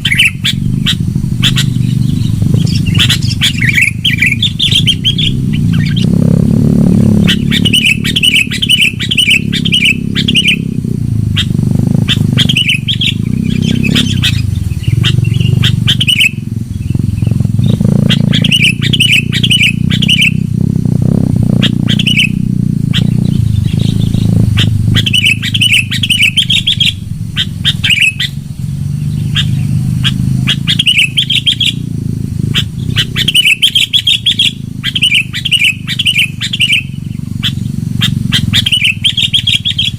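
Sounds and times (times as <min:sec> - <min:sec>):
bulbul chirping song: 0:00.0 - 0:39.9
steady low hum: 0:00.0 - 0:39.9.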